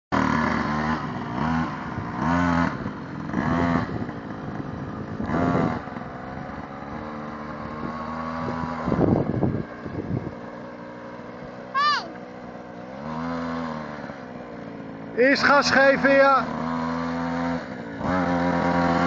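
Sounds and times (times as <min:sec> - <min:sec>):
mini bike engine revving: 0:00.1 - 0:19.0.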